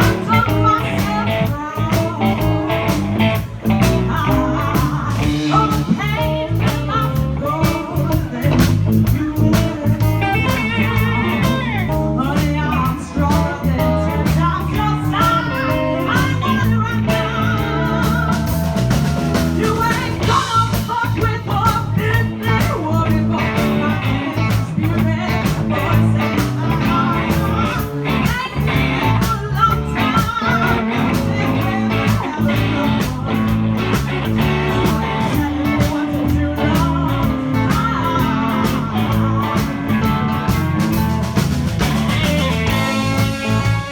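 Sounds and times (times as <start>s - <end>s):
blues band jamming: 0.0s - 43.9s.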